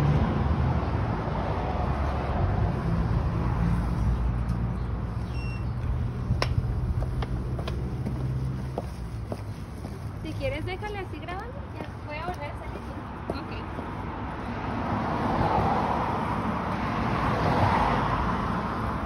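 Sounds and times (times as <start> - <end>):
rumble of passing cars: 0.0 - 19.0.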